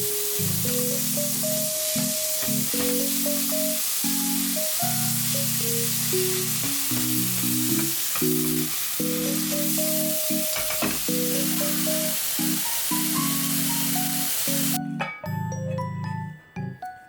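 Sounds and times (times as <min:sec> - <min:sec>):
food frying in a pan: 0:00.0 - 0:14.8
light background music: 0:00.0 - 0:17.0.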